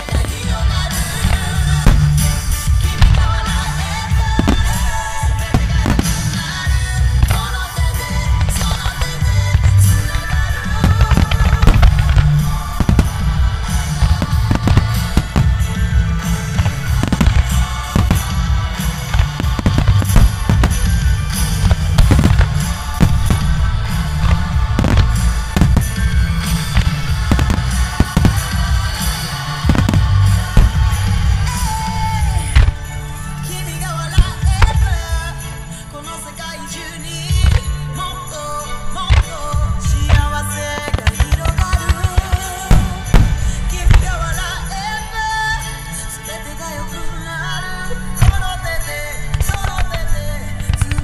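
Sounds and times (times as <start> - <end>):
music with heavy beat: 0.0 - 38.0, 39.1 - 46.8
fireworks bursting: 0.0 - 51.0.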